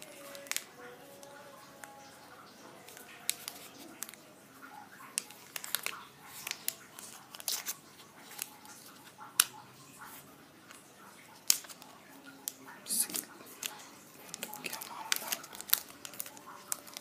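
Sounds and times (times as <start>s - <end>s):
plastic film crinkling: 0.0s - 17.0s.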